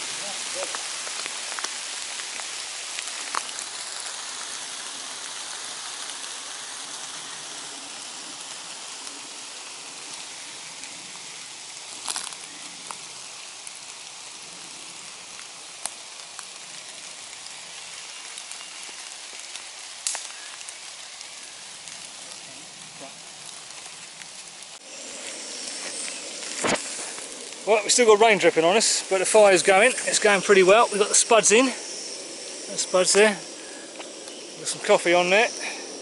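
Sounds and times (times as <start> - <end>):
rain pattering in woodland: 0.0 - 36.0.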